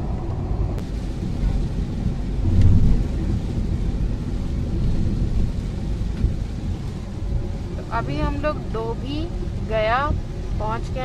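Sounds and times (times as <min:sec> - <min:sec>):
car engine rumble: 0:00.0 - 0:11.0
tyres on wet road: 0:00.0 - 0:11.0.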